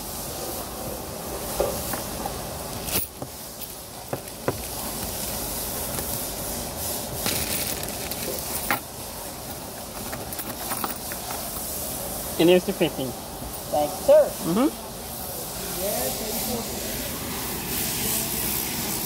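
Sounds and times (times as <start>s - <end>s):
steady hissing noise: 0.0s - 19.0s.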